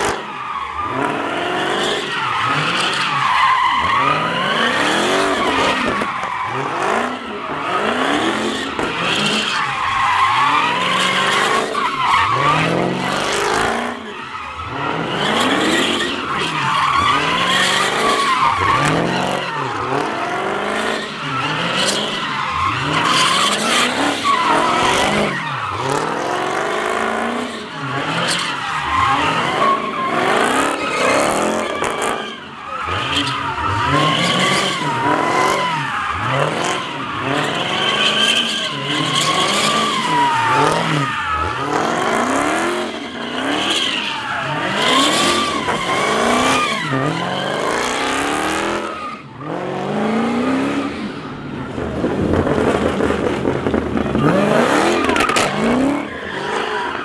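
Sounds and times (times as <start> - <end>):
car engine revving: 0.0 - 57.0
tires screeching: 0.0 - 57.0.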